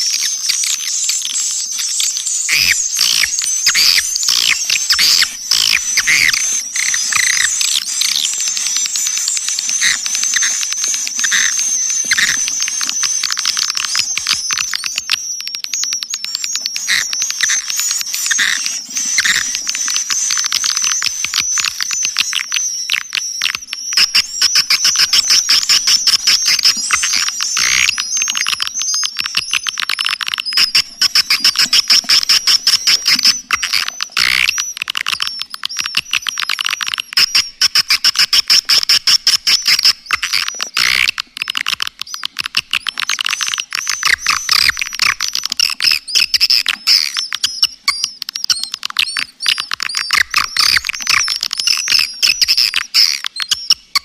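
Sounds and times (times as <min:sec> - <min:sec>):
swiftlet chirps and twitters: 0:00.0 - 0:54.0.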